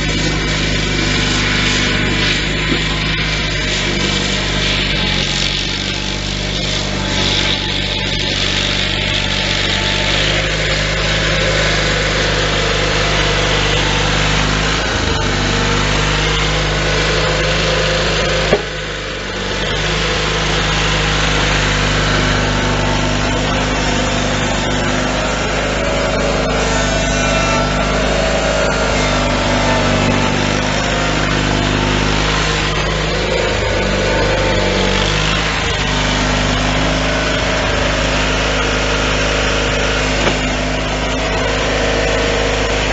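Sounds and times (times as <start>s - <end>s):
garden tractor engine running: 0.0s - 42.9s
plow blade pushing snow: 0.0s - 42.9s.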